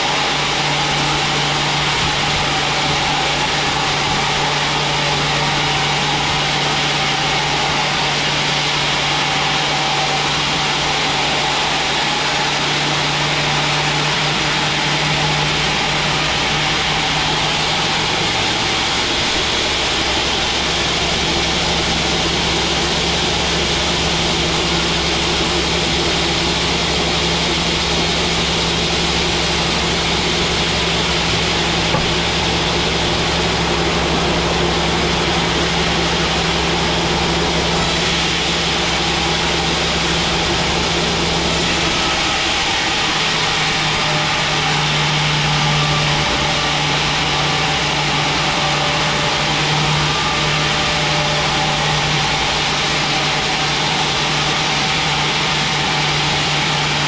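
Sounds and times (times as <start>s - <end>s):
band sawmill machine hum: 0.0s - 57.0s.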